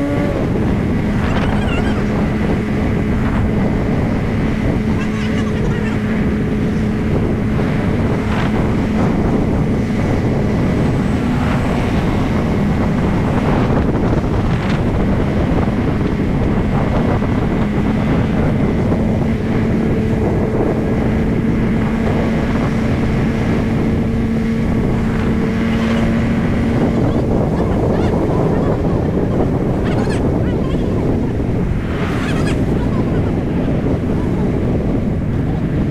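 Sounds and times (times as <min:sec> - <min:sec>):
motorcycle engine humming: 0:00.0 - 0:35.9
wind rushing over microphone: 0:00.0 - 0:35.9.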